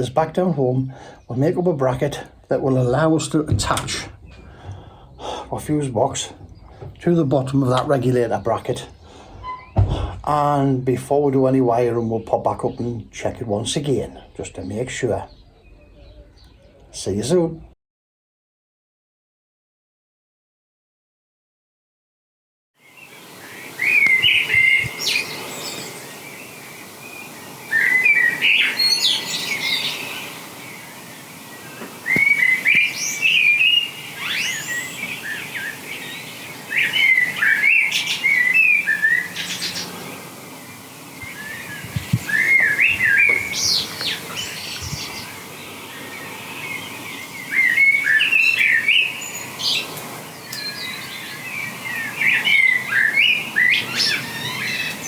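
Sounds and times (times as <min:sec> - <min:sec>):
songbird singing: 0:00.0 - 0:17.8, 0:22.8 - 0:55.0.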